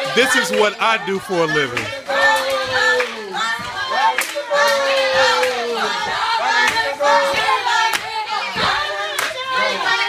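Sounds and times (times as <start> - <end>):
voices calling and singing: 0.0 - 10.0
hand claps: 1.4 - 10.0.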